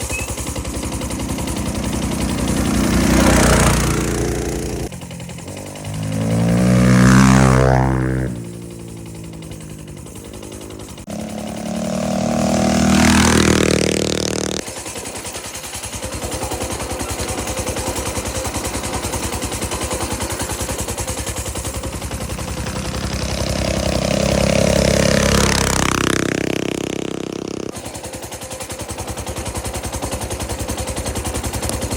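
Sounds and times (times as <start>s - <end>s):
minibike engine idling: 0.0s - 31.9s
minibikes riding past: 0.0s - 31.9s.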